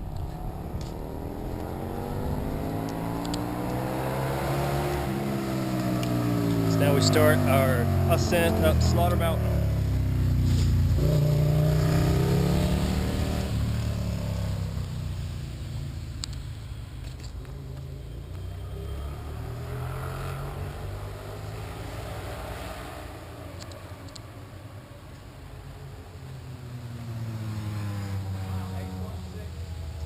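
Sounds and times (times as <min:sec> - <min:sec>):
vehicle driving past: 0:00.0 - 0:24.0, 0:26.0 - 0:30.0.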